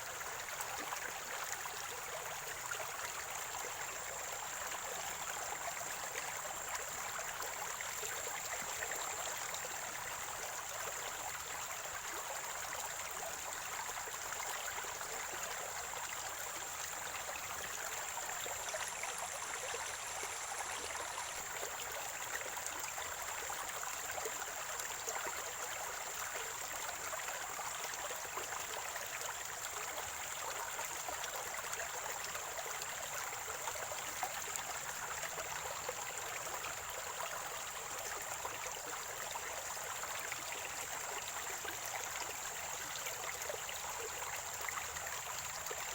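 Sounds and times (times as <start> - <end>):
stream water gurgling: 0.0 - 45.9.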